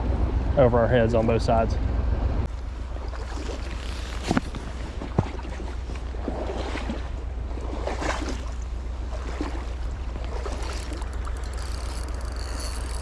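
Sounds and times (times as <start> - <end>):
low rumble of flowing water: 0.0 - 13.0
water sloshing and splashing: 2.5 - 13.0.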